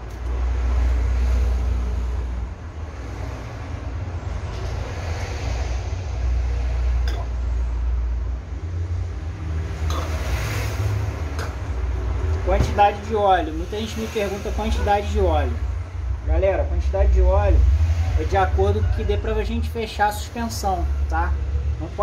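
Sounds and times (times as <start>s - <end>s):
low vehicle rumble: 0.0s - 22.0s.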